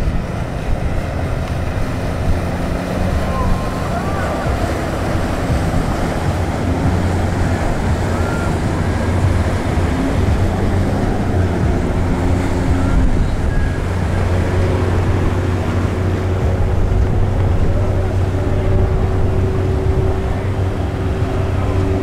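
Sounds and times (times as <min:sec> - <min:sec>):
ship engine drone: 0:00.0 - 0:22.0
water wash: 0:00.0 - 0:22.0
wind noise: 0:00.0 - 0:22.0.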